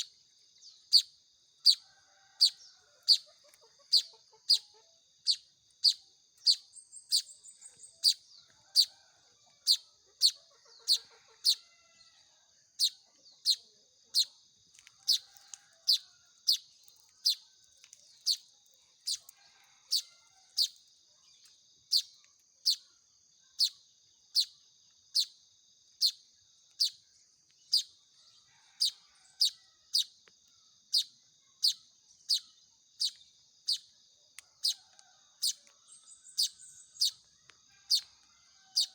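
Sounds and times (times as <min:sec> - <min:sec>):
bird chick chirping: 0:00.0 - 0:22.9, 0:23.5 - 0:25.4, 0:26.0 - 0:30.2, 0:30.9 - 0:38.9.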